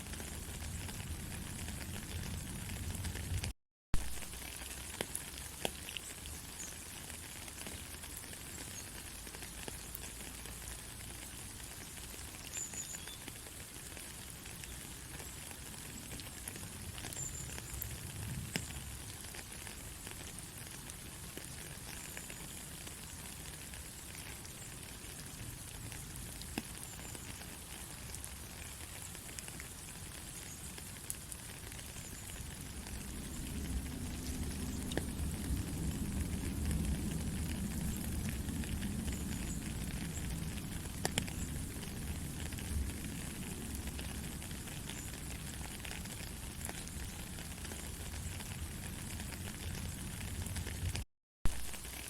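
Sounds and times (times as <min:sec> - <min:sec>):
soft rain: 0:00.0 - 0:52.0.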